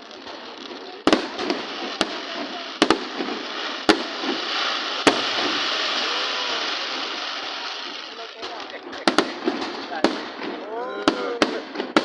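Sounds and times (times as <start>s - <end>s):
fireworks dense hiss: 0.0s - 12.0s
fireworks sharp bangs: 0.0s - 12.0s.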